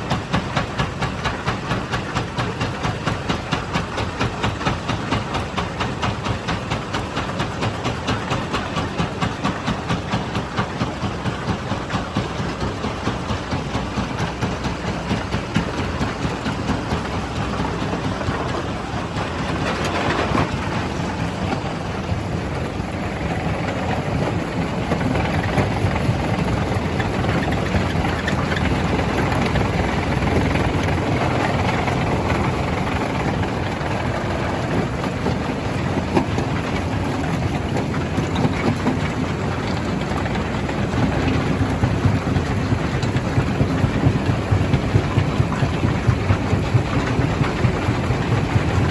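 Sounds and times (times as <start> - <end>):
engine drone: 0.0 - 48.9.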